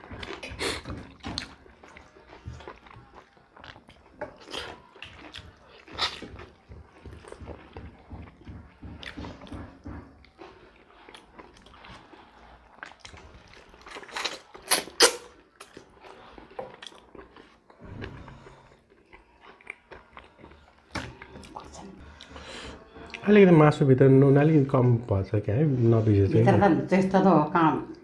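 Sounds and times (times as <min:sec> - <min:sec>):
wet chewing: 0:00.0 - 0:23.2.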